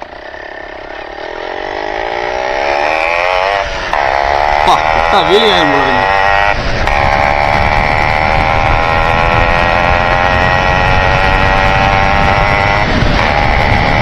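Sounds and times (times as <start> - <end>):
motorcycle engine at high revs: 0.0 - 14.0
wind rumble on microphone: 0.0 - 14.0.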